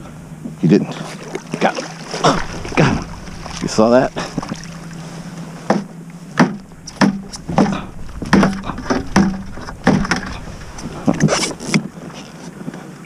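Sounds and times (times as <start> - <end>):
gear knocking and clunking: 1.4 - 12.4.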